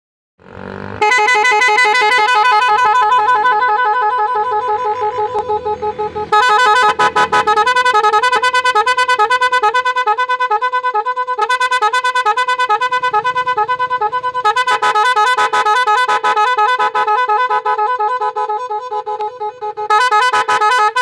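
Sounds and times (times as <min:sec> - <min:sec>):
multi-tone bus horn melody: 0:00.4 - 0:21.0.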